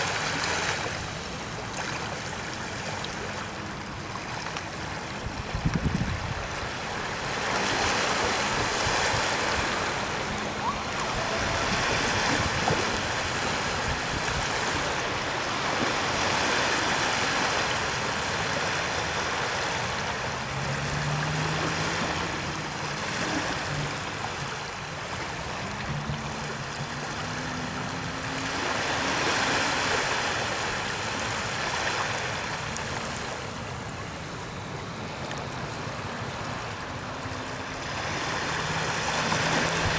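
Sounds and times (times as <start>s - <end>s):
waves washing on a beach: 0.0s - 39.9s.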